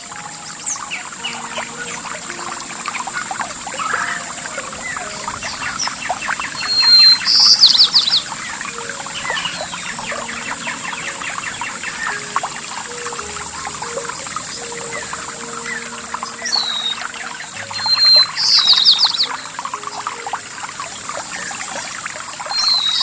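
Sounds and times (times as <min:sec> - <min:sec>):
bird whistle and trill: 0:00.0 - 0:21.8, 0:22.4 - 0:23.0
songbirds chirping: 0:00.0 - 0:23.0
trickling water: 0:00.0 - 0:23.0.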